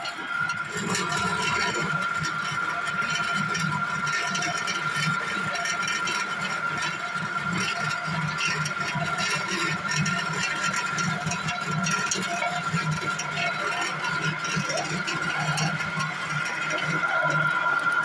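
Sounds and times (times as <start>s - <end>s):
machine whine and rumble: 0.0s - 18.0s
shredded coconut rattling in drum: 0.0s - 18.0s.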